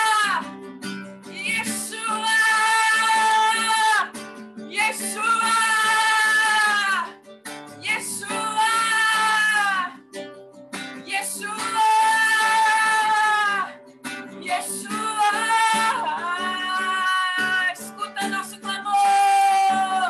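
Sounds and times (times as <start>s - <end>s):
person singing: 0.0s - 10.2s, 11.0s - 20.0s
strummed acoustic guitar: 0.0s - 20.0s.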